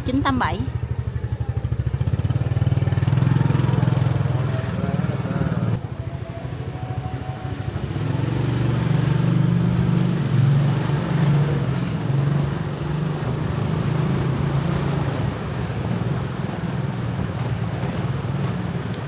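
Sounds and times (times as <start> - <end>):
motorbike engine humming: 0.0 - 19.0.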